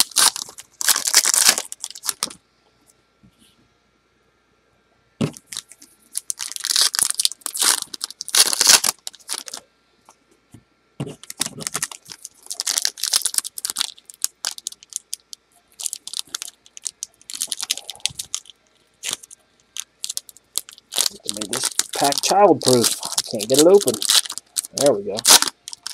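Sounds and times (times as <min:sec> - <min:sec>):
foil wrapper crinkling and tearing: 0:00.0 - 0:02.4, 0:05.3 - 0:09.6, 0:11.2 - 0:25.9.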